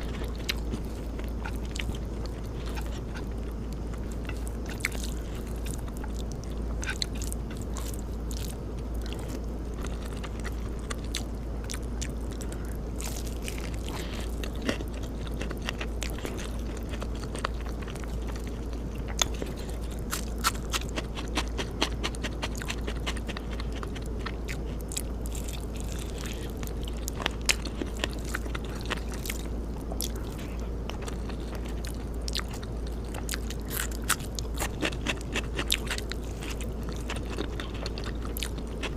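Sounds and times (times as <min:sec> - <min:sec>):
person chewing with crunches: 0:00.0 - 0:38.9
steady low hum: 0:00.0 - 0:38.9.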